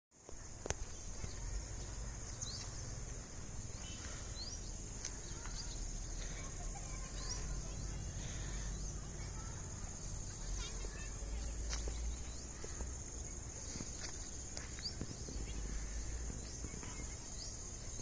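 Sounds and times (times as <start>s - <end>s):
bird chirps: 0.8s - 18.0s.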